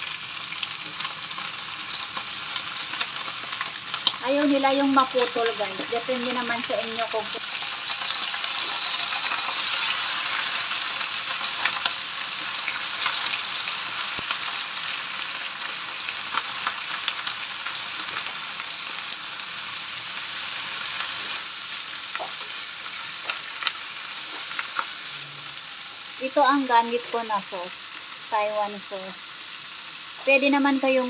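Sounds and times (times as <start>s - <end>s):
vegetables sizzling in a pan: 0.0s - 31.0s.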